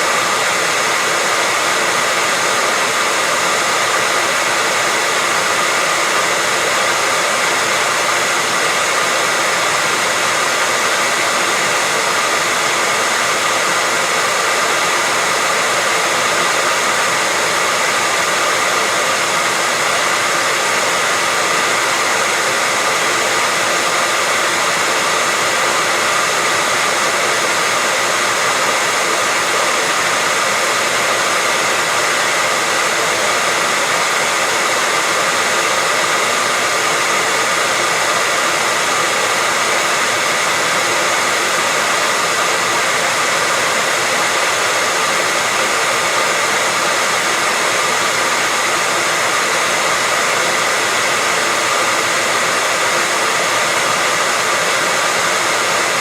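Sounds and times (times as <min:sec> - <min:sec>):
electric hair dryer running: 0:00.0 - 0:56.0.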